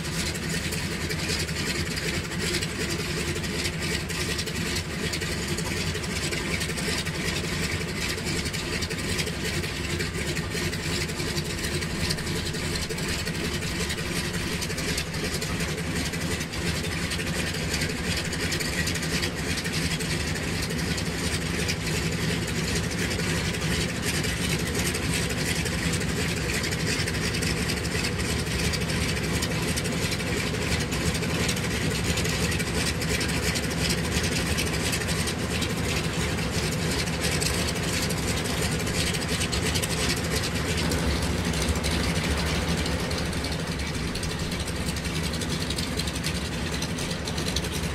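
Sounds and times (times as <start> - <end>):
radial engines idling: 0.0 - 47.9.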